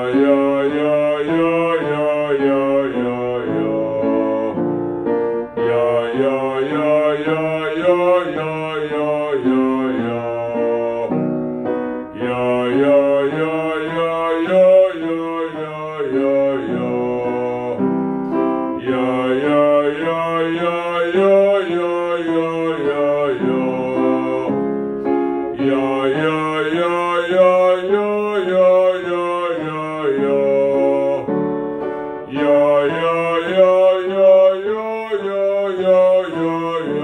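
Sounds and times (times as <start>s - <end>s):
man singing vocal scales: 0.0s - 37.0s
piano accompaniment: 0.0s - 37.0s.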